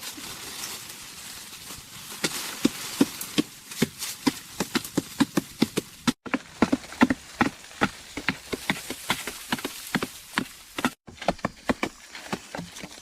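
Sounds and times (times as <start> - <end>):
hand tool chopping: 2.2 - 13.0.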